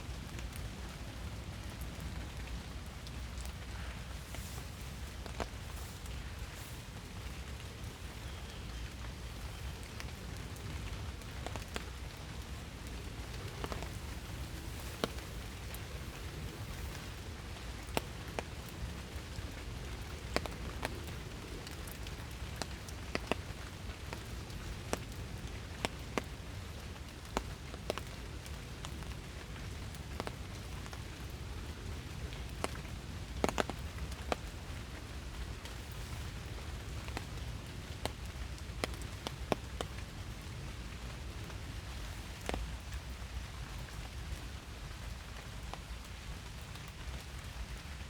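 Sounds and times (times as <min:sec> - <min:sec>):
raindrops tapping: 0:00.0 - 0:48.0
steady rain in a forest: 0:00.0 - 0:48.0.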